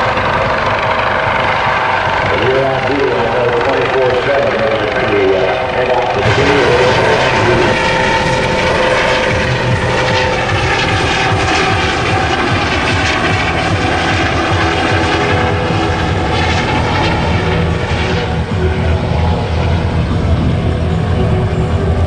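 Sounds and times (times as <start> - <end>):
aircraft engine drone: 0.0 - 22.0.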